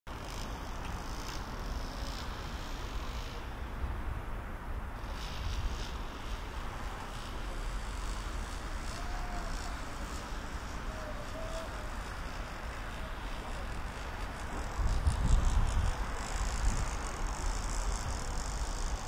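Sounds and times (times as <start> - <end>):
city traffic rumble: 0.1 - 19.0.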